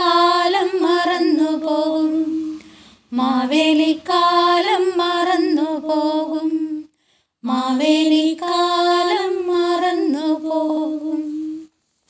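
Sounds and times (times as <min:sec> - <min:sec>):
women singing unaccompanied: 0:00.0 - 0:11.7.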